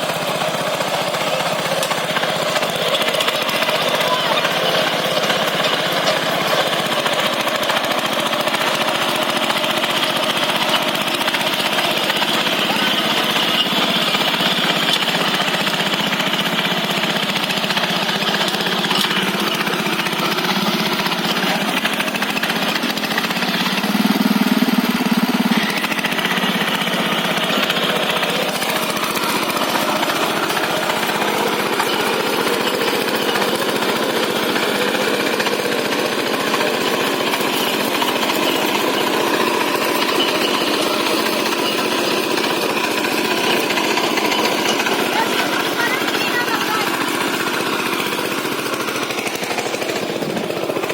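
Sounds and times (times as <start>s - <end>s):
machine engine pulsing: 0.0s - 50.9s.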